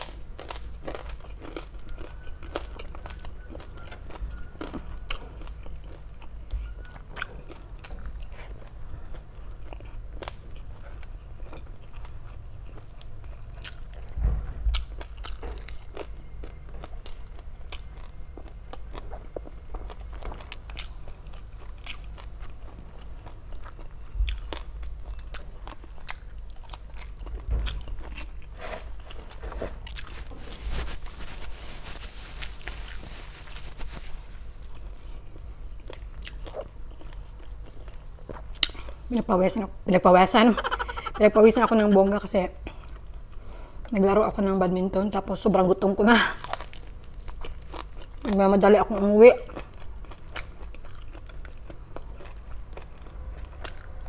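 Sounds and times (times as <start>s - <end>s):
crunchy chewing: 0.0s - 39.0s, 46.4s - 54.0s.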